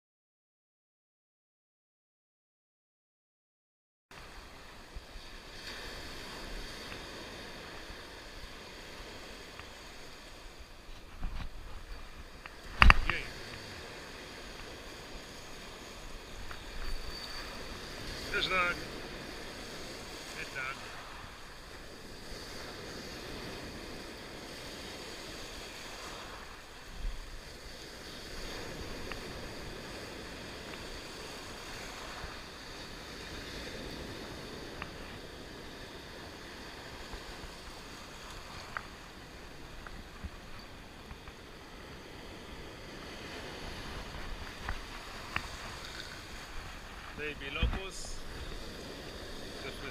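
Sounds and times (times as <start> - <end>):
sea surf breaking on shore: 4.2 - 49.9
wind rumbling on microphone: 4.2 - 49.9.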